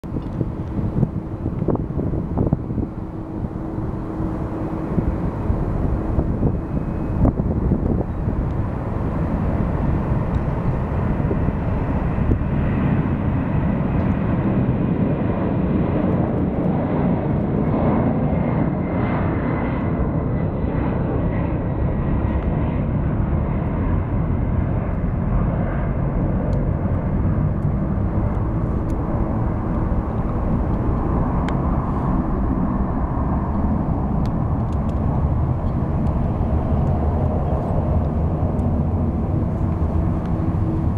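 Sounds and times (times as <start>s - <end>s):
jet engines roaring: 0.0s - 40.9s
faint whine: 0.1s - 15.2s, 20.8s - 40.9s.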